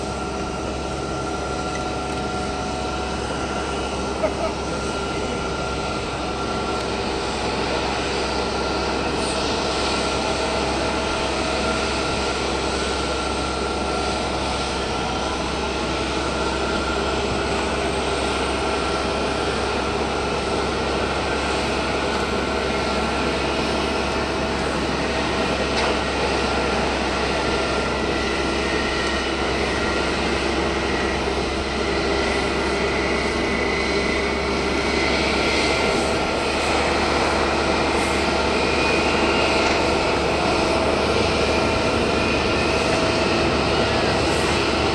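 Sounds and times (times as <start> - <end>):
jet engine whine: 0.0 - 44.9.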